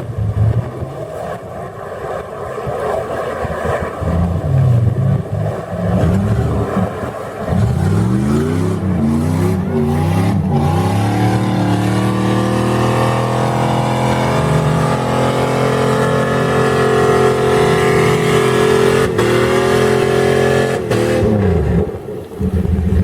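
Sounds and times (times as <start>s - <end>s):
truck engine revving: 4.0s - 23.0s.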